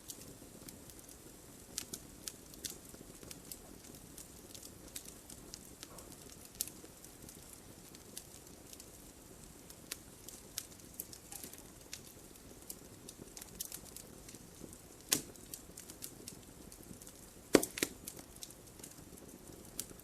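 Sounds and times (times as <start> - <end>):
fire rumbling: 0.0 - 20.0
logs popping and crackling: 0.0 - 20.0.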